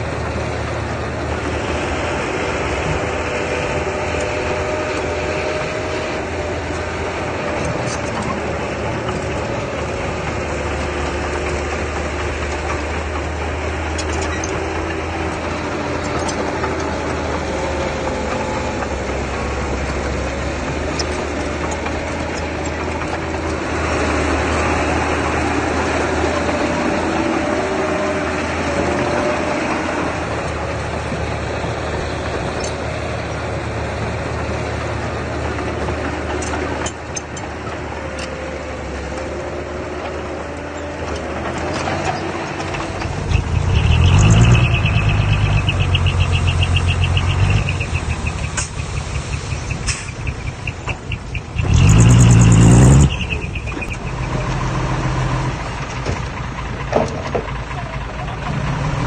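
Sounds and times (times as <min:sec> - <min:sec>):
heavy machinery diesel engine: 0:00.0 - 0:59.0
pulsing engine rumble: 0:00.0 - 0:59.0.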